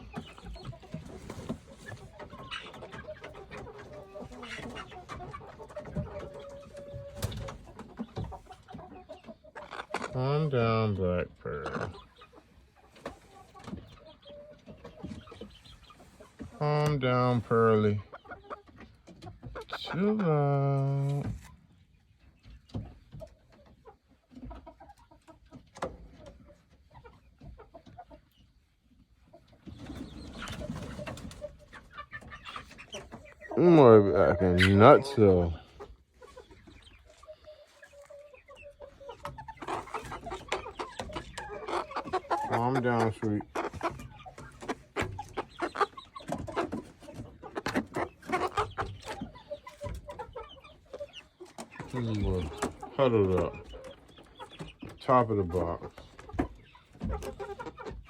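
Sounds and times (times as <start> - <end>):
hens clucking softly: 0.0 - 58.0.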